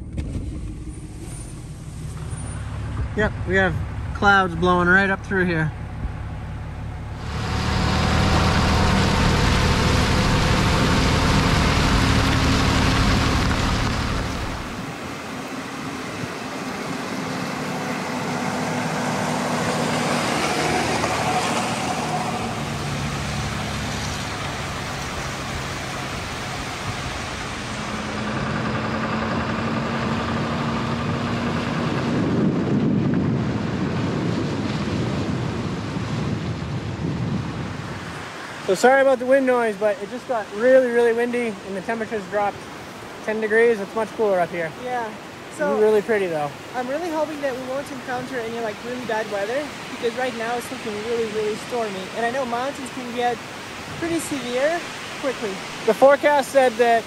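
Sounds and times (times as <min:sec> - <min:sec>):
truck engine hum: 0:00.0 - 0:57.0
tyres on gravel road: 0:00.0 - 0:57.0.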